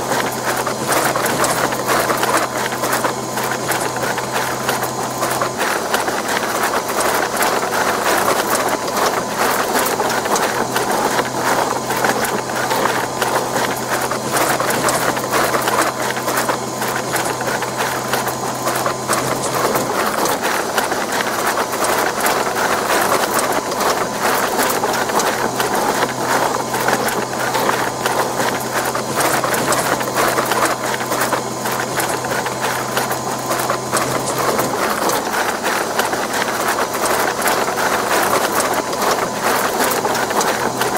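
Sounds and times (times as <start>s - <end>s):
stand mixer motor hum: 0.0s - 40.9s.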